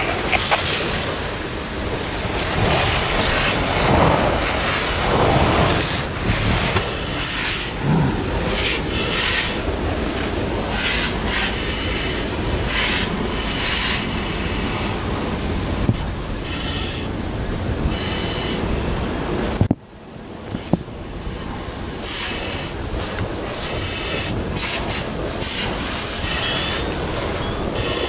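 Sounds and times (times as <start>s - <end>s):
fire hose water jet hissing: 0.0s - 17.1s, 20.5s - 28.0s.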